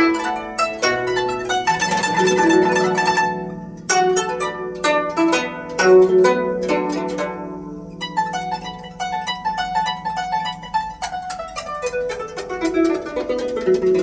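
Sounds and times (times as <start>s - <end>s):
zither plucked notes: 0.0s - 14.0s.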